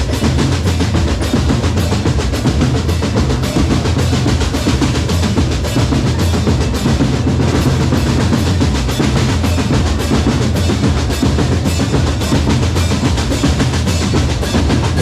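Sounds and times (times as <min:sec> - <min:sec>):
bass drums: 0:00.0 - 0:15.0
snare drums and rolls: 0:00.0 - 0:15.0.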